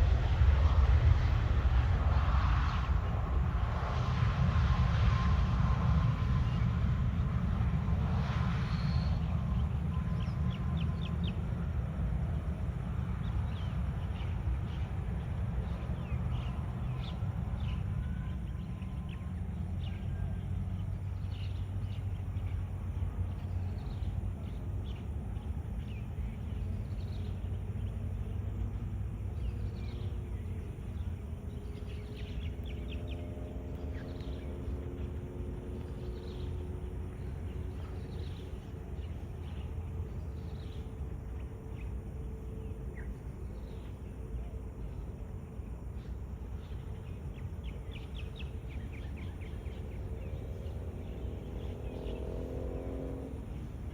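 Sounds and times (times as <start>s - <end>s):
faint steady drone: 0.0s - 53.9s
low outdoor rumble: 0.0s - 53.9s
birds chirping: 5.7s - 53.9s.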